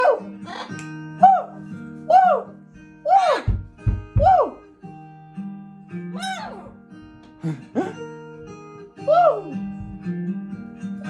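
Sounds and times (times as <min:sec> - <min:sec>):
acoustic guitar picking: 0:00.2 - 0:11.0.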